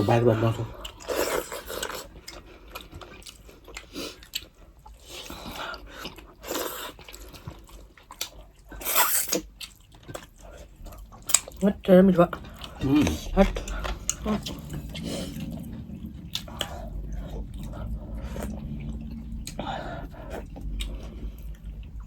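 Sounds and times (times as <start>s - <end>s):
person chewing food: 0.6s - 22.0s.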